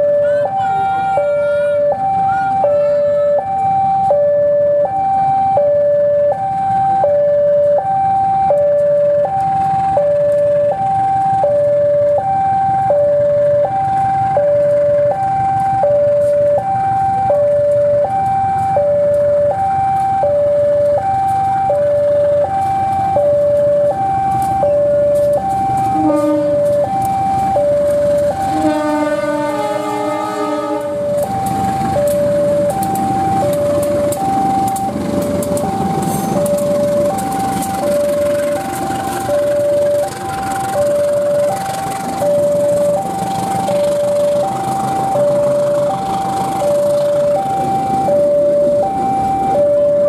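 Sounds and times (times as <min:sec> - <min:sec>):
locomotive rumble: 0:00.0 - 0:50.0
two-tone level crossing alarm: 0:00.0 - 0:50.0.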